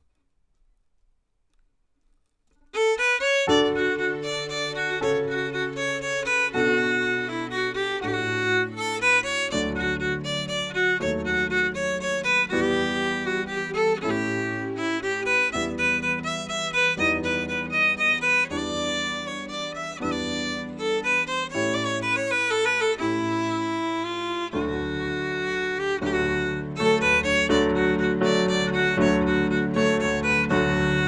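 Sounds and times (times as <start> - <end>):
fiddle bowed melody: 2.6 - 31.0
piano chords: 2.8 - 31.0.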